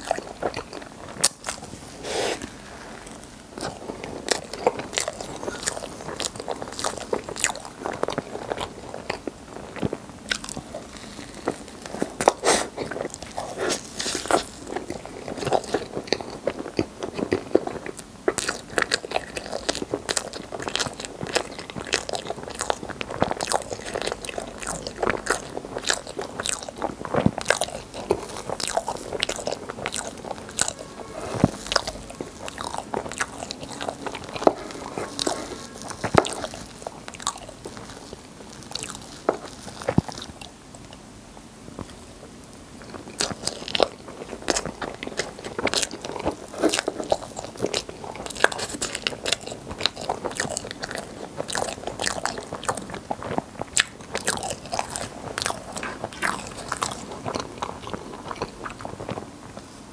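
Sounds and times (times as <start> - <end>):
chewing with wet mouth clicks: 0.0 - 1.7, 3.5 - 41.0, 41.8 - 59.2.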